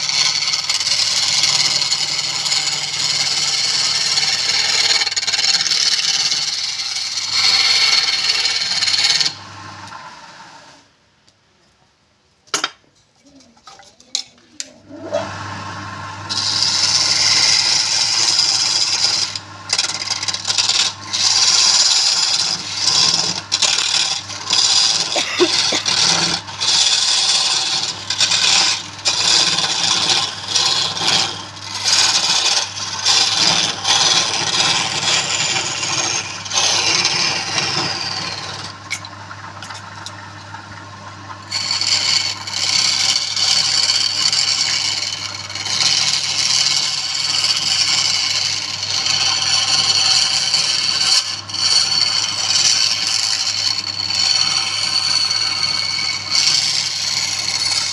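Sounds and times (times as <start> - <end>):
tool scraping wood: 0.0 - 9.4, 16.3 - 40.2, 41.4 - 57.9.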